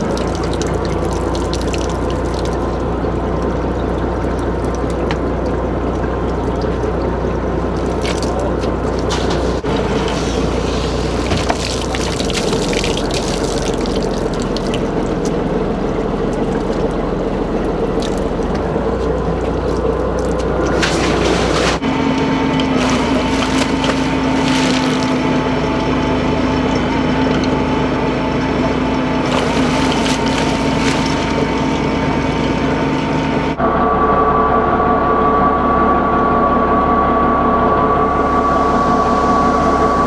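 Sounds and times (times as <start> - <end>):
splashing and pouring water: 0.0 - 27.8, 28.6 - 33.6, 38.0 - 40.0
boat machinery humming: 0.0 - 40.0.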